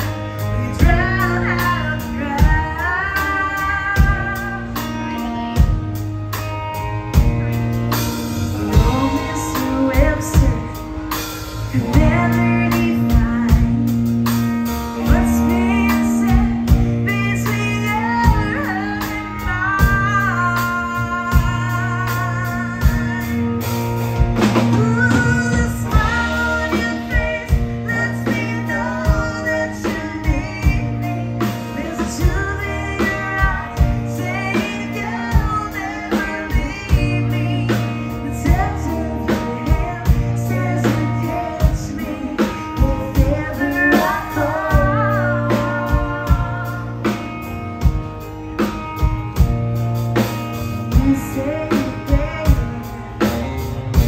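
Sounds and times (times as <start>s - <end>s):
woman singing a country ballad: 0.0s - 49.6s, 50.2s - 54.0s
bass line: 0.0s - 54.0s
guitar: 0.0s - 54.0s.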